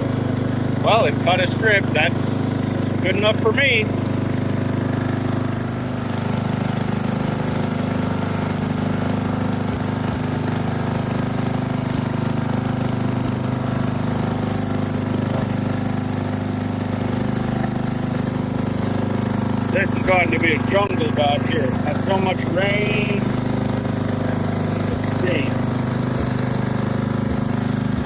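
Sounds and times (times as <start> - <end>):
riding lawn mower engine running: 0.0 - 28.0.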